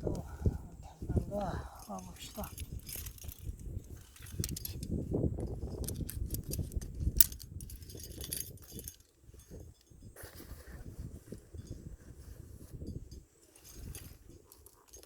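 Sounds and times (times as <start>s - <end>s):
climbing hardware clinking: 0.1s - 10.0s, 12.8s - 15.0s.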